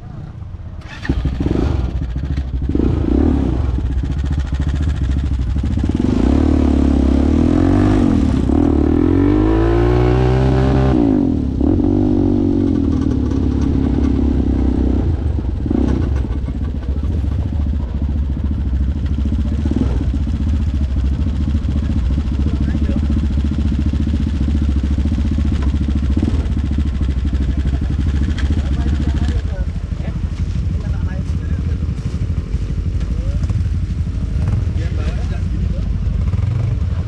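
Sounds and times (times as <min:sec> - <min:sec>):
atv engine revving: 0:00.8 - 0:37.0.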